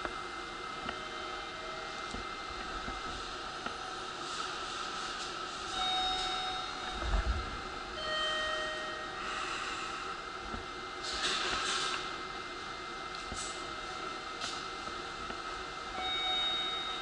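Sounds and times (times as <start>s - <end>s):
electric train rumble and hiss: 0.0s - 17.0s.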